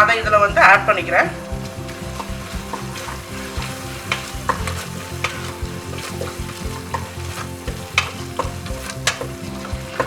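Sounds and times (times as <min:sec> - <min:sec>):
food sizzling in hot oil: 0:00.3 - 0:10.0.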